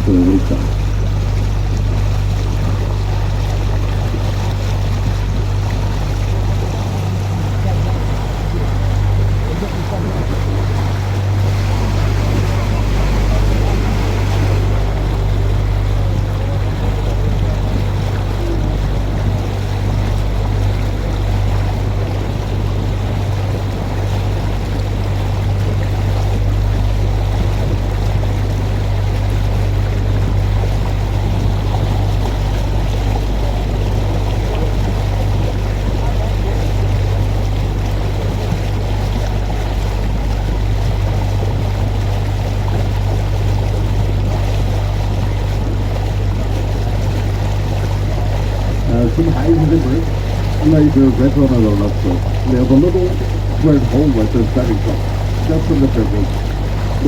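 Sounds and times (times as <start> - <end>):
boat motor humming: 0.0 - 57.0
water wash: 0.0 - 57.0.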